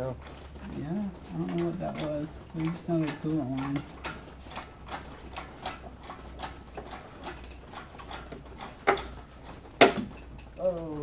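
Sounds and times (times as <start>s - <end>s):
light mechanical ticking: 0.0s - 11.0s.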